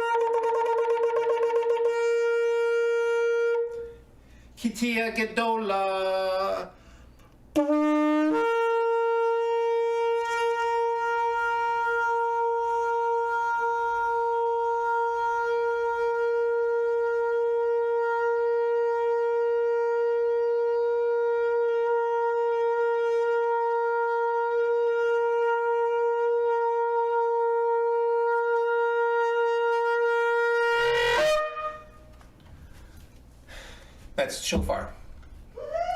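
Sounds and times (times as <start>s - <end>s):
shofar long held note: 0.0s - 4.4s, 7.5s - 32.8s.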